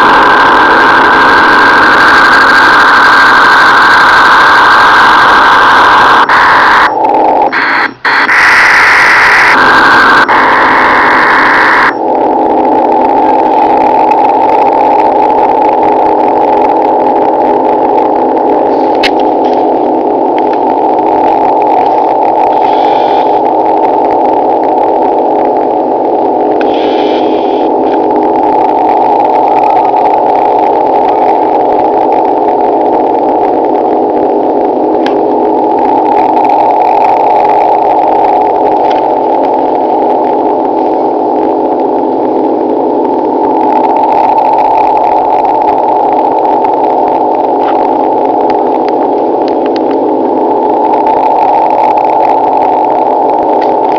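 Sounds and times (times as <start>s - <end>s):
radio drone of close tones: 0.0s - 53.9s.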